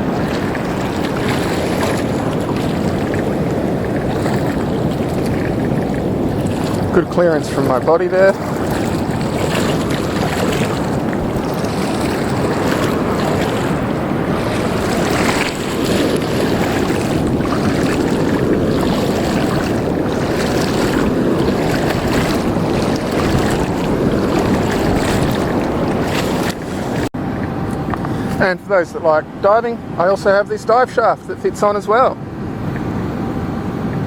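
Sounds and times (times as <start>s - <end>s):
wind buffeting microphone: 0.0s - 28.4s
surf and moving water: 0.0s - 34.0s.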